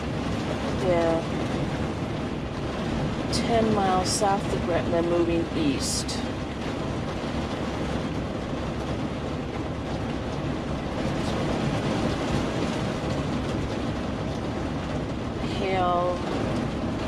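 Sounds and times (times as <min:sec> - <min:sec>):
rain and hail on vehicle roof: 0:00.0 - 0:17.0.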